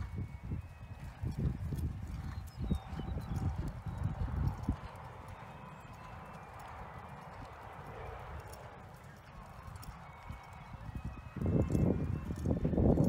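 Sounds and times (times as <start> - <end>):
hooves thudding on sand: 0.0 - 13.0.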